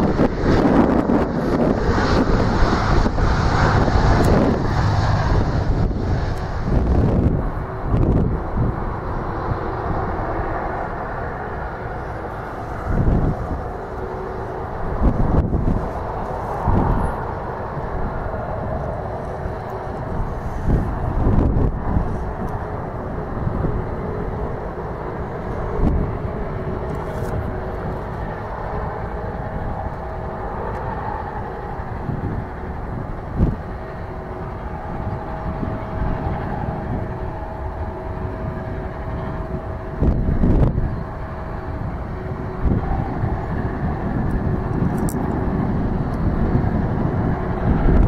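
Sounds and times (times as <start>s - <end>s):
distant jet engines rumbling: 0.0s - 48.0s
wind on microphone: 0.0s - 48.0s.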